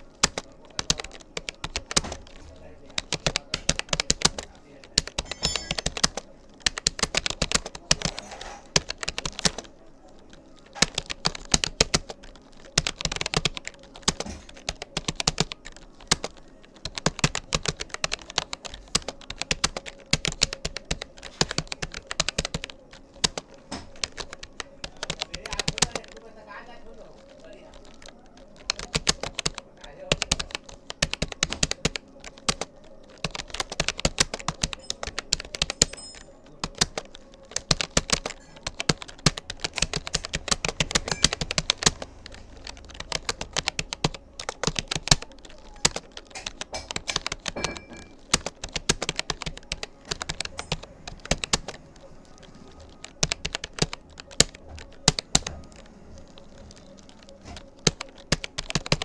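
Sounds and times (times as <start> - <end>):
keyboard typing clicks: 0.0 - 26.3, 27.0 - 59.0.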